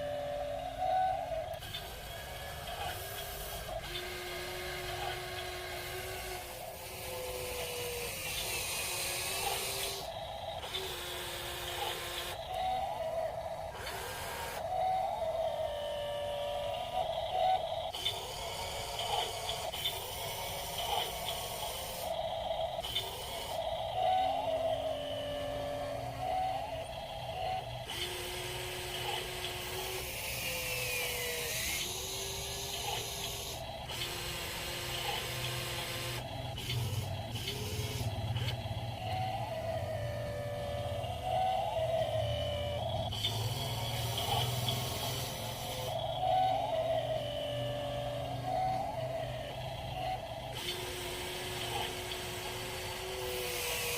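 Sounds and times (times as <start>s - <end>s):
electric motors whining: 0.0s - 53.9s.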